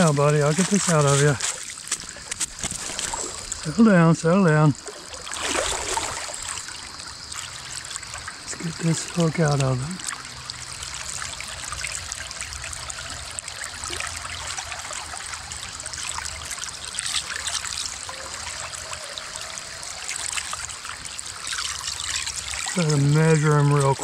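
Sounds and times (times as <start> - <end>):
creek water trickling: 0.0 - 24.0
small water splashes: 0.0 - 24.0.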